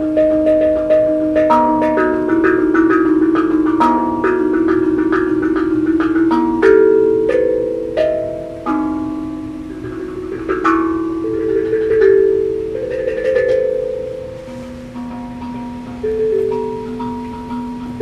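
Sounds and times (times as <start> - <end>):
tuned percussion slow melody: 0.0 - 18.0.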